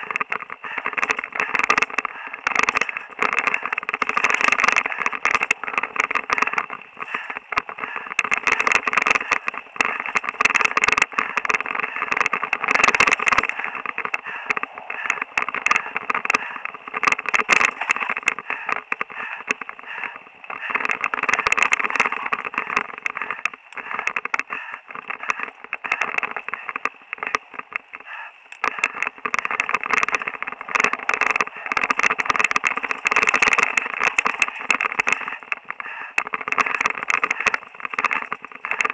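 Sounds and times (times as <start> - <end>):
bike knocking over bumps: 0.0 - 38.9
mountain bike rattling on dirt trail: 0.0 - 38.9.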